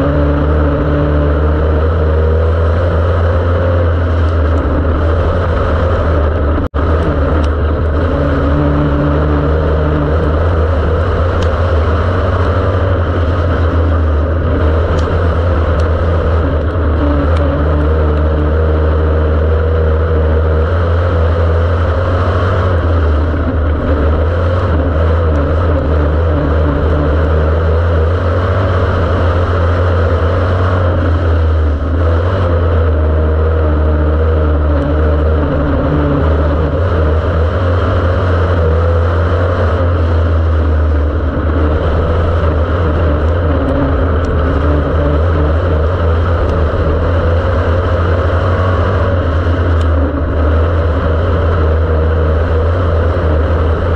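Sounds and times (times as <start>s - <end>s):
race car engine droning: 0.0s - 53.9s.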